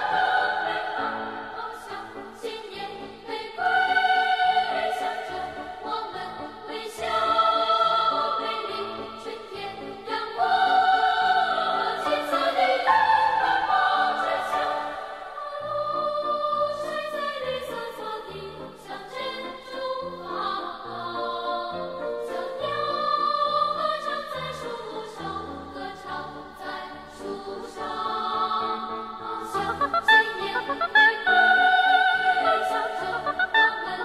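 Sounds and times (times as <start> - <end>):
choral singing with orchestra: 0.0 - 34.0.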